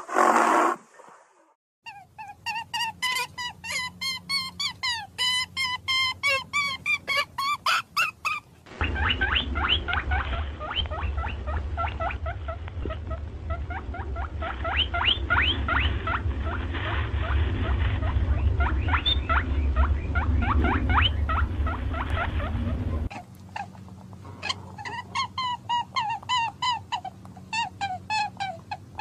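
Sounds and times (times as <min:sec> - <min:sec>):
small animal squeaking: 0:01.8 - 0:16.6, 0:17.2 - 0:29.0
low steady rumble: 0:01.9 - 0:29.0.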